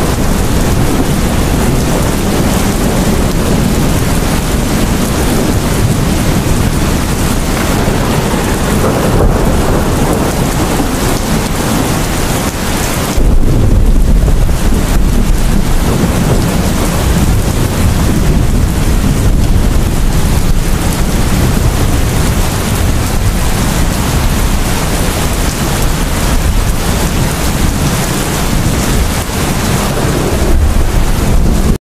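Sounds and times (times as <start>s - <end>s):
deep rumble: 0.0s - 31.8s
heavy rain pouring: 0.0s - 31.8s.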